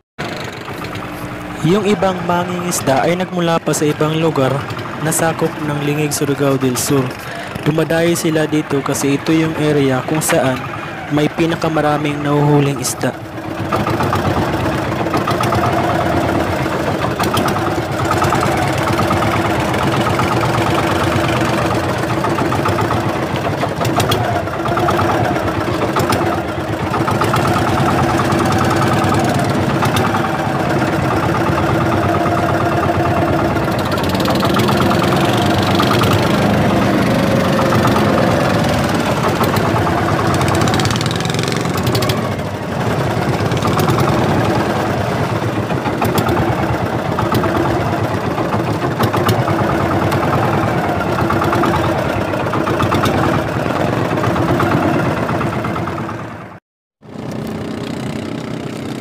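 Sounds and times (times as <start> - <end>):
small boat engine running: 0.2 - 59.0.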